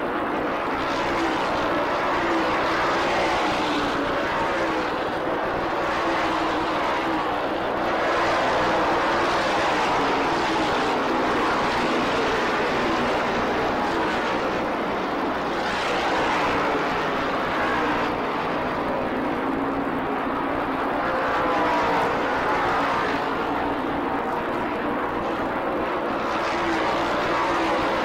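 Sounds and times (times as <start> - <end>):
race car engines roaring past: 0.0 - 28.0.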